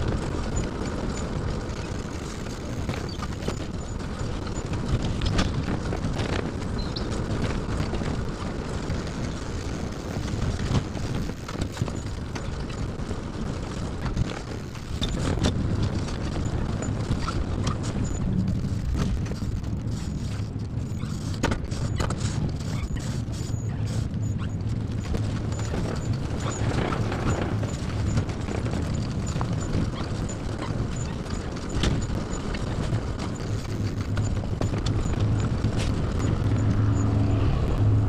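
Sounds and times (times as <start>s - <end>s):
trailer wheels rumbling on pavement: 0.0s - 38.0s
wind on microphone: 0.0s - 38.0s.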